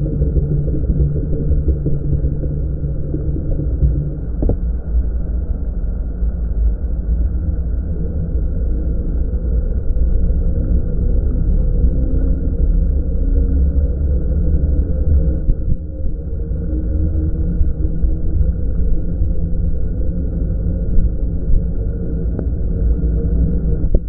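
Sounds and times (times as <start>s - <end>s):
electric bike riding rumble: 0.0s - 24.0s.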